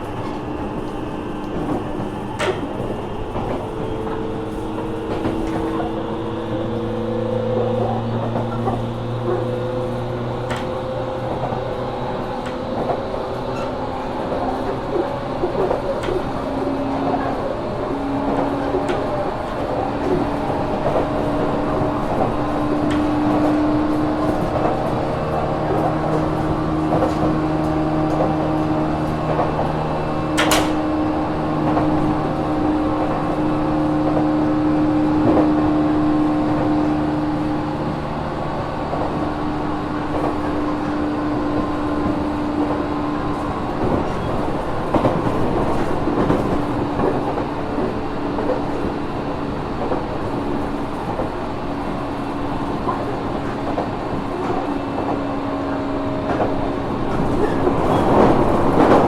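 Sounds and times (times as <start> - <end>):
wheel and rail rumble: 0.0 - 59.0.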